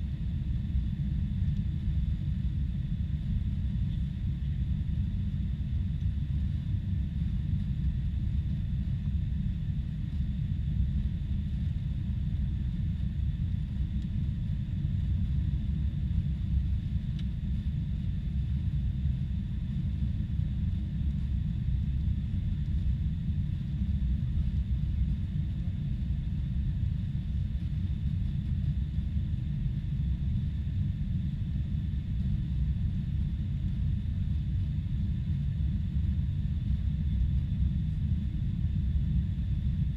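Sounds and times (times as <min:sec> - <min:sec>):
airliner engine low rumble: 0:00.0 - 0:39.9.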